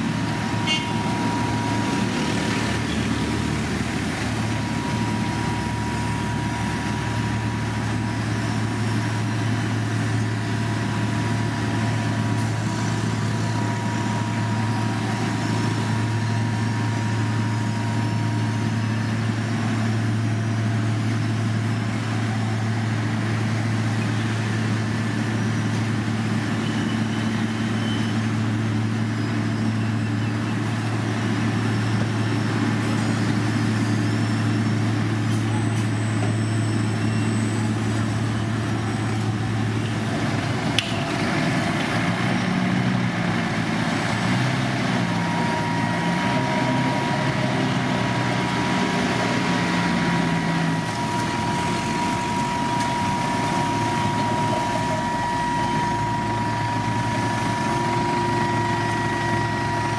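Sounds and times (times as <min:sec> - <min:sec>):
low diesel engine drone: 0:00.0 - 0:59.9.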